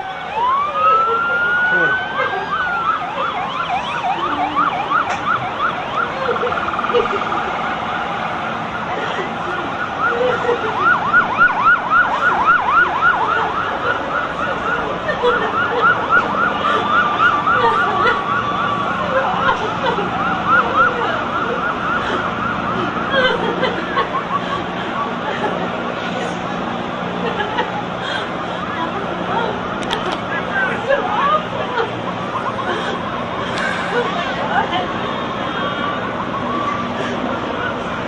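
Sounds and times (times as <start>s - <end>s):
siren wailing: 0.0s - 38.0s
siren yelping: 0.0s - 38.0s.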